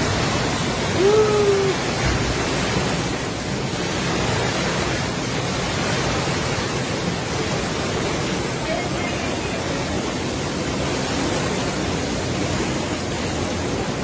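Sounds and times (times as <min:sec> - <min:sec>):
heavy rain: 0:00.0 - 0:14.0
strong wind: 0:00.0 - 0:14.0.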